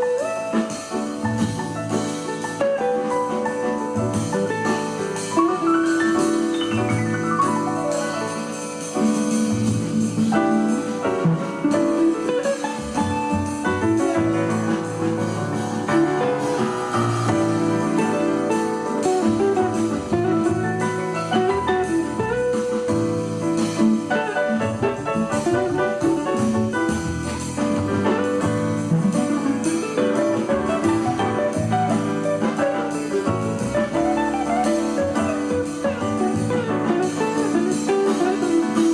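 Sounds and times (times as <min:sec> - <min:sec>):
instrumental background music: 0:00.0 - 0:38.9.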